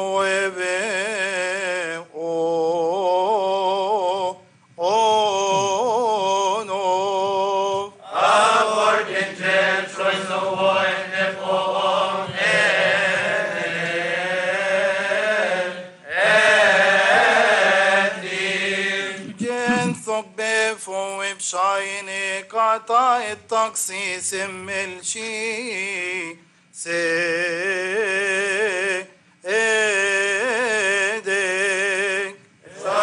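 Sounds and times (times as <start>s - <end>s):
men chanting a slow hymn: 0.0s - 33.0s.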